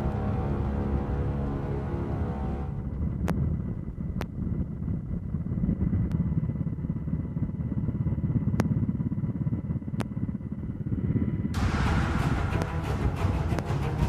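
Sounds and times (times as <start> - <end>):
engine running with low flutter: 0.0 - 14.0
faint steady whine: 0.0 - 14.0.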